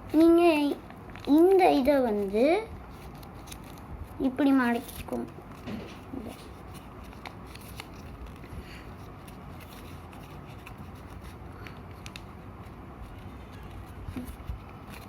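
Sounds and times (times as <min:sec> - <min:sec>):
low background hum: 0:00.0 - 0:15.0
paper rustling: 0:00.0 - 0:15.0.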